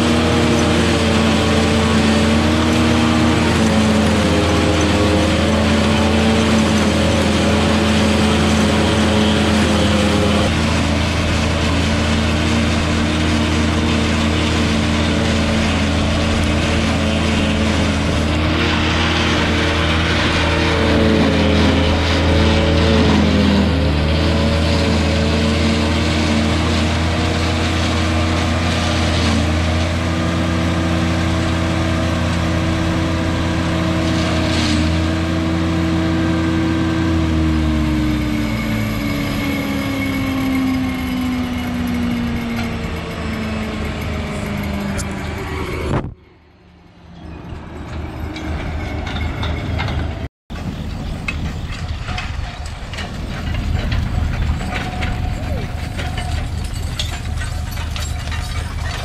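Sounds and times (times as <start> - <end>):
silage processor engine running: 0.0 - 59.0.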